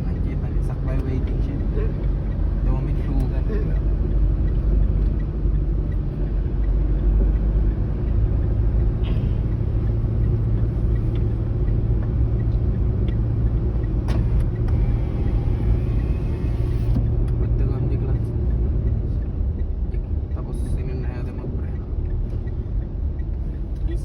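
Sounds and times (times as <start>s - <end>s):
car engine drone: 0.0s - 24.0s
road rumble: 0.0s - 24.0s.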